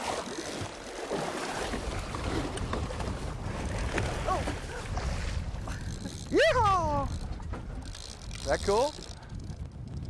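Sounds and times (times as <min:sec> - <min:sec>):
water splashing and churning: 0:00.0 - 0:10.0.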